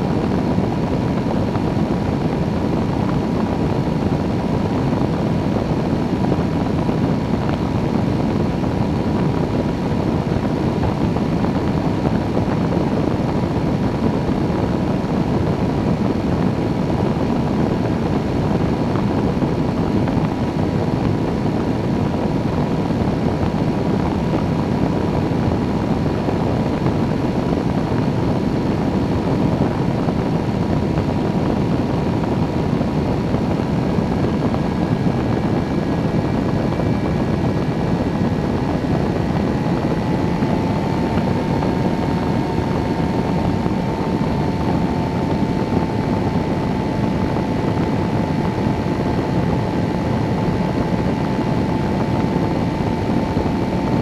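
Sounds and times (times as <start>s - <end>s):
engine and propeller droning: 0.0s - 54.0s
wind rushing: 0.0s - 54.0s.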